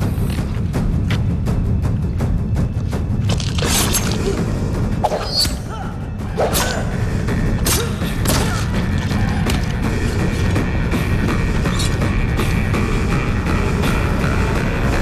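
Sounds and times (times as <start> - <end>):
dramatic film music: 0.0 - 15.0.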